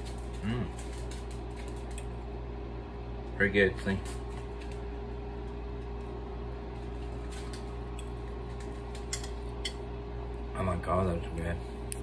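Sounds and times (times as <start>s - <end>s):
machine hum with constant tone: 0.0s - 12.0s.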